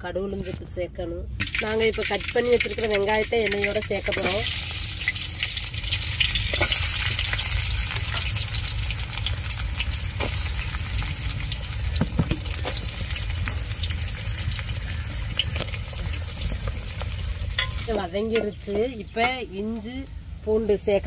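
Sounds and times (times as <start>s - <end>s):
oil popping and crackling: 1.3s - 21.0s
onions sizzling in hot oil: 1.4s - 21.0s.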